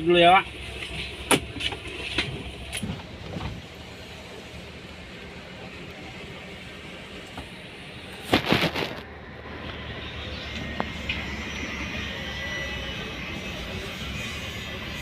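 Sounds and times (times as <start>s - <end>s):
car engine and tyres running: 0.0s - 15.0s.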